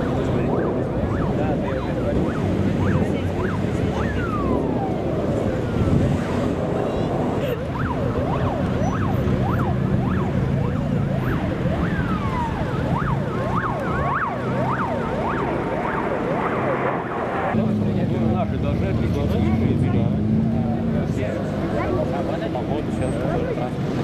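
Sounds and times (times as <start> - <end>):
jet fighters flying overhead: 0.0 - 24.0.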